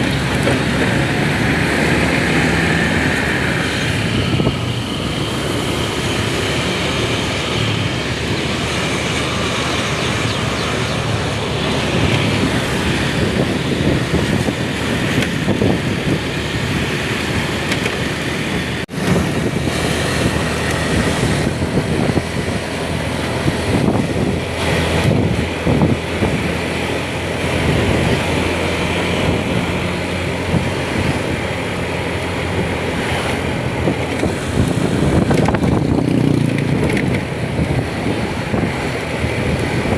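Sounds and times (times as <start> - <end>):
road noise: 0.0 - 39.9
vehicle engine running: 0.0 - 39.9
wind noise: 0.0 - 39.9.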